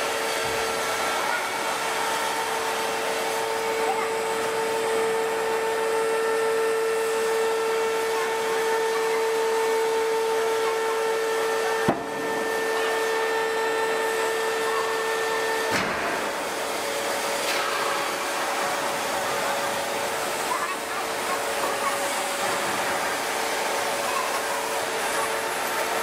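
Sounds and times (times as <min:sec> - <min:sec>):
hydraulic press whine with hiss: 0:00.0 - 0:26.0.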